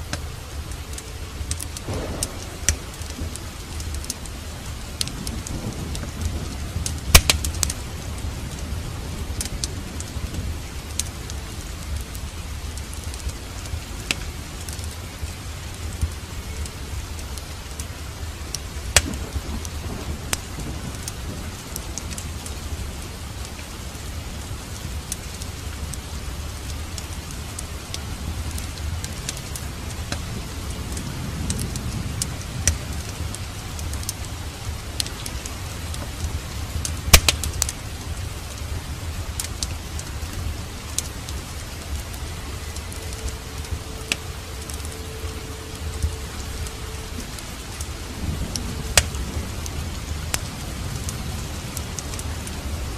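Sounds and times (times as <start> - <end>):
fire crackling and popping: 0.0 - 52.9
low rumble: 0.0 - 52.9
rain falling: 0.0 - 52.9.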